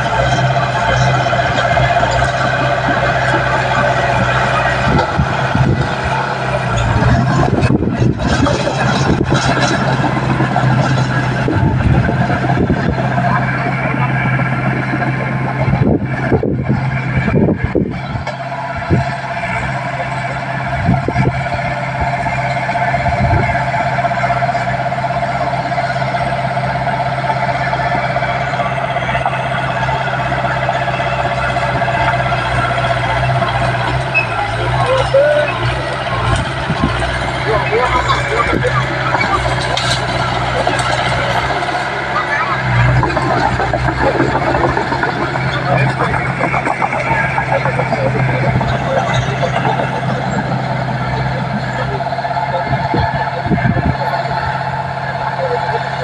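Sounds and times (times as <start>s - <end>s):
bulldozer diesel engine: 0.0s - 56.0s
steel tracks clattering: 0.0s - 56.0s.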